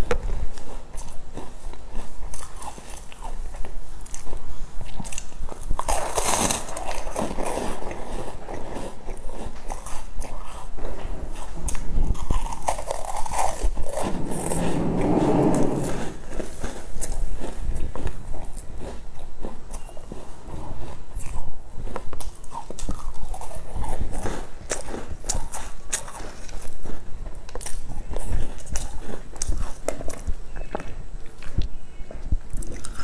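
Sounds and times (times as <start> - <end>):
chewing and crunching pastry: 0.0 - 14.1, 16.3 - 33.0.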